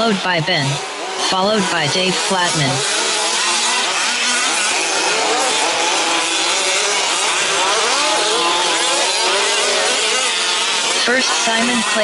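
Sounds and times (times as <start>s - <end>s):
small two-stroke engines whining: 0.0s - 12.0s.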